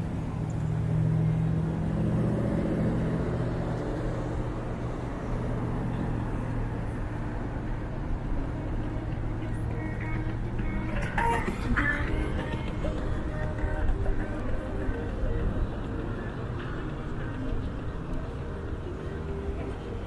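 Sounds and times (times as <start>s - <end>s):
outdoor background noise: 0.0s - 20.0s
vehicle engine humming: 0.0s - 20.0s.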